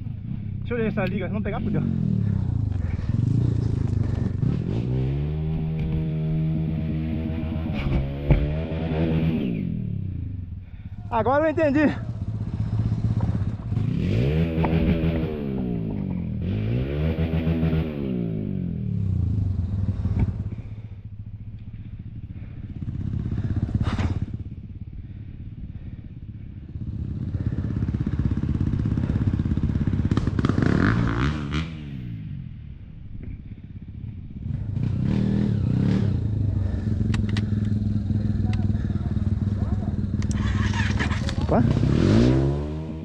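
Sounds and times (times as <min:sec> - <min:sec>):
dirt bike engine revving: 0:01.4 - 0:10.1, 0:10.7 - 0:20.8, 0:22.4 - 0:25.2, 0:26.7 - 0:32.4, 0:34.4 - 0:43.0.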